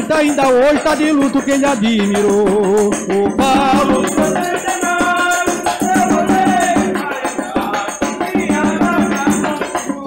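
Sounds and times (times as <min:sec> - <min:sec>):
bass drum rhythm: 0:00.0 - 0:10.0
frame drum: 0:00.0 - 0:10.0
metal shaker: 0:00.0 - 0:10.0
person singing: 0:00.0 - 0:10.0.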